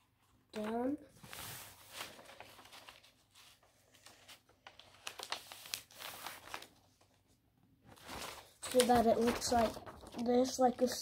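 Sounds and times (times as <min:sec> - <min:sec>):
paper being folded and creased: 0:00.0 - 0:11.0.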